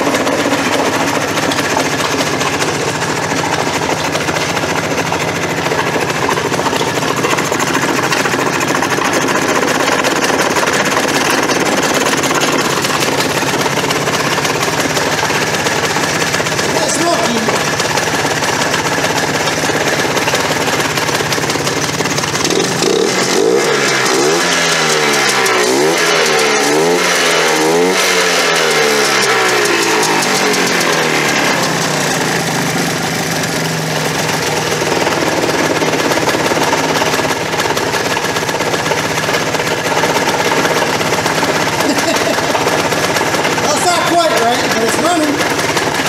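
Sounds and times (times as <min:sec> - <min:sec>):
two-stroke engine revving: 0:00.0 - 0:46.0.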